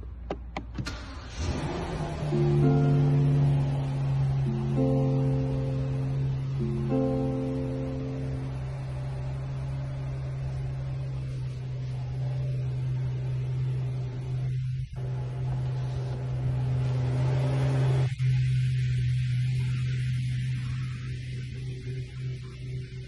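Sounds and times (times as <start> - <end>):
steady low hum: 2.0 - 23.0.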